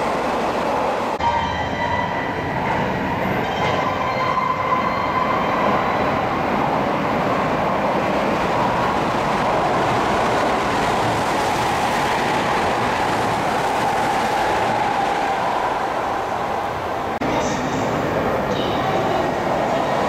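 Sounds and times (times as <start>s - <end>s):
electric train passing at speed: 0.0s - 20.0s.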